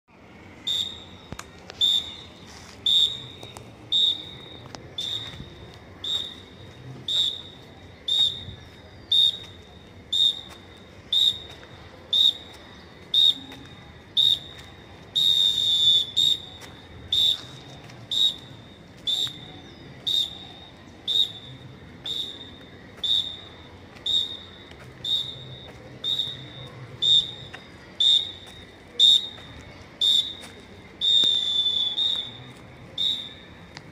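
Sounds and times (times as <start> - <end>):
whistle blasts: 0.6 - 33.8.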